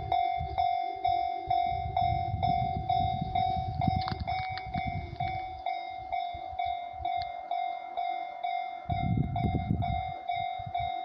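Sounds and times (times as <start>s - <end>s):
electric train rumbling past: 0.0s - 11.0s
level crossing bell ringing: 0.0s - 11.0s.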